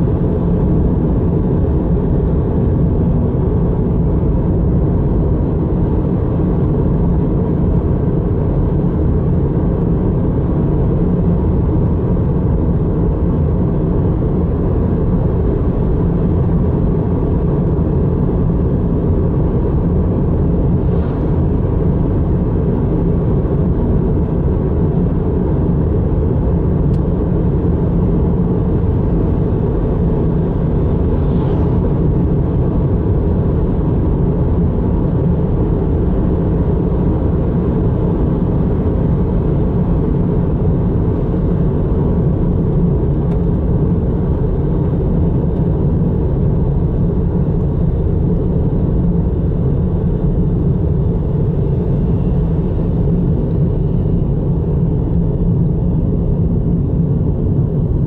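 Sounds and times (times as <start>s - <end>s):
car driving road rumble: 0.0s - 58.0s.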